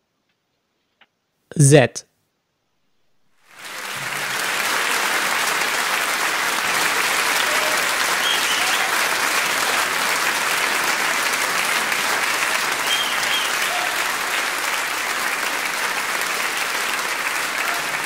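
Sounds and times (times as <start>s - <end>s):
crowd clapping: 3.4s - 18.0s.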